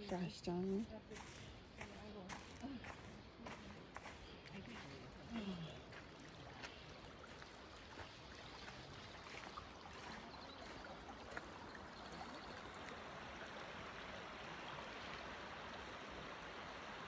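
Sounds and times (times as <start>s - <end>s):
creek babbling: 0.0s - 17.0s.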